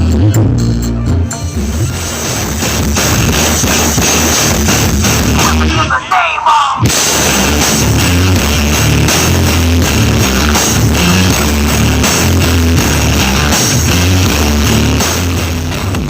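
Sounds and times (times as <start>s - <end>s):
loud rock music with heavy bass: 0.0s - 16.0s.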